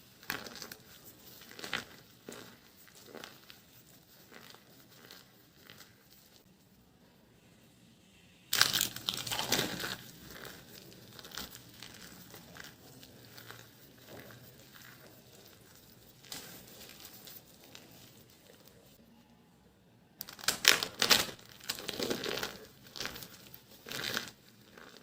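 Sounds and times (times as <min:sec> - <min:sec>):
dry soap crunching and crackling: 0:00.0 - 0:06.5, 0:08.5 - 0:19.0, 0:20.2 - 0:25.0.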